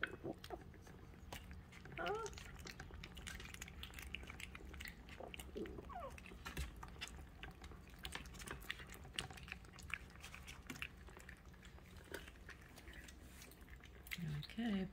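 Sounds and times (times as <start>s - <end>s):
puppies crunching kibble: 0.0s - 14.9s.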